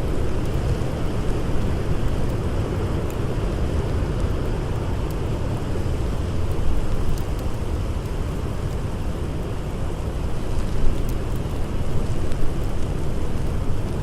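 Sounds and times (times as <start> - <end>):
faint wood fire crackles: 0.0 - 14.0.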